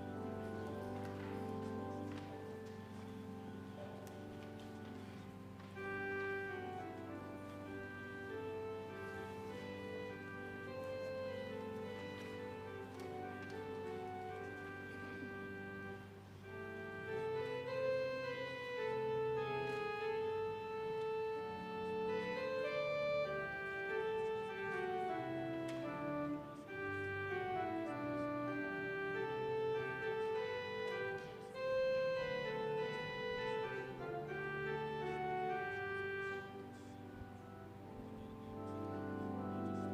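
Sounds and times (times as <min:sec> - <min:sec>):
church organ playing a hymn: 0:00.0 - 0:39.9.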